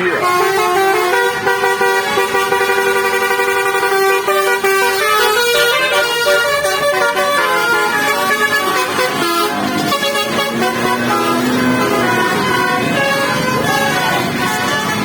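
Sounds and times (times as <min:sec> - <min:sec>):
musical air horn playing tune: 0:00.0 - 0:15.0.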